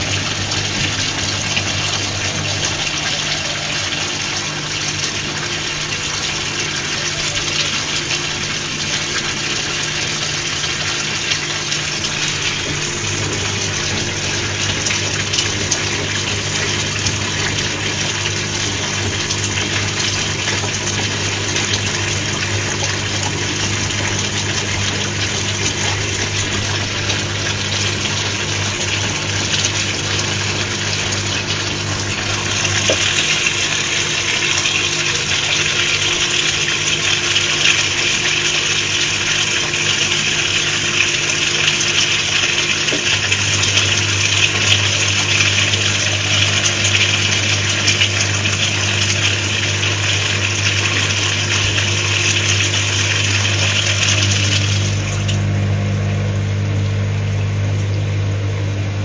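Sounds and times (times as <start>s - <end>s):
washing machine drum motor humming: 0.0s - 59.0s
water rushing into drum: 0.0s - 59.0s.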